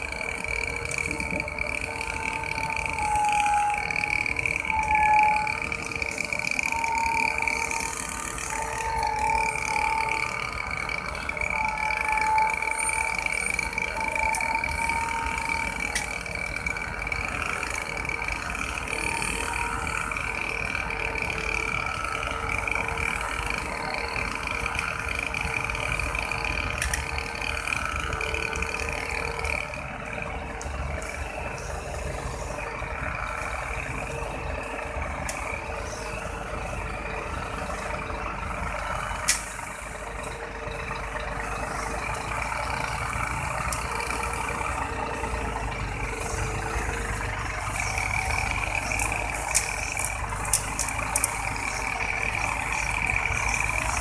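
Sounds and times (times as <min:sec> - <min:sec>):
high whine: 0:00.0 - 0:54.0
truck engine running: 0:00.0 - 0:54.0.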